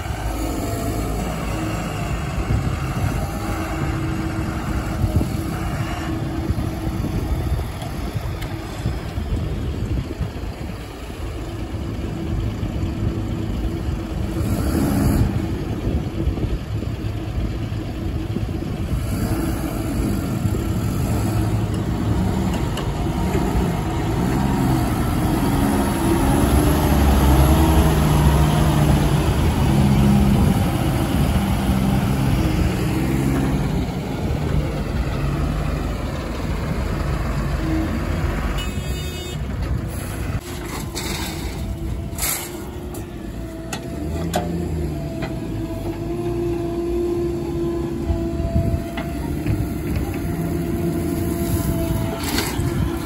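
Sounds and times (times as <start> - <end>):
diesel engine revving: 0.0 - 53.0.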